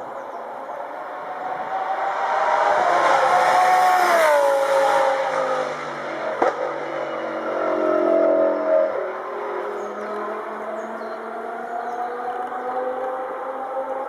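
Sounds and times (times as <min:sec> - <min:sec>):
race car passing at speed: 0:01.0 - 0:14.0.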